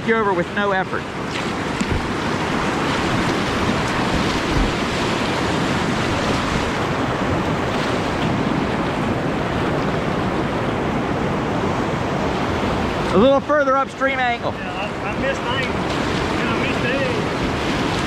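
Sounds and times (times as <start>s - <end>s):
whitewater rushing: 0.0s - 18.0s.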